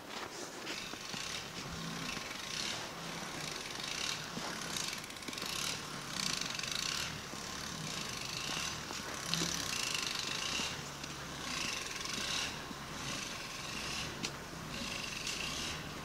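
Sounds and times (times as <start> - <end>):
footsteps crunching on snow: 0.0 - 16.0.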